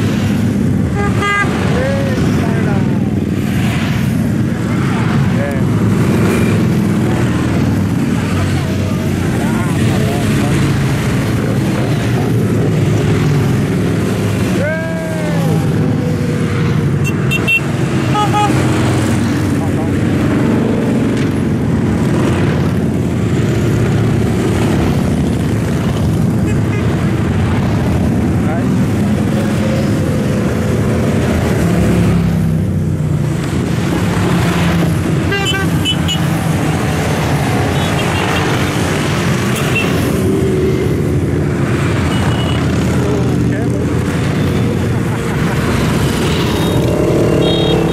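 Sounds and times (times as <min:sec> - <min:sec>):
motorcycle engines rumbling: 0:00.0 - 0:47.9.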